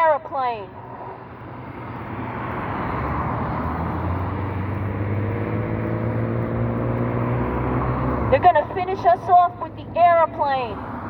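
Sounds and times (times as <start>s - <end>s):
passing engine hum: 0.0s - 11.0s.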